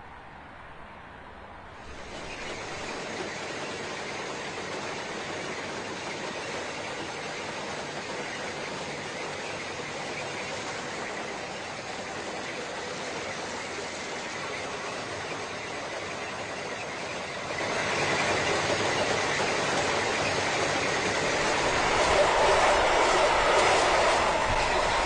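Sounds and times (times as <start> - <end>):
track maintenance machinery: 1.8 - 25.0.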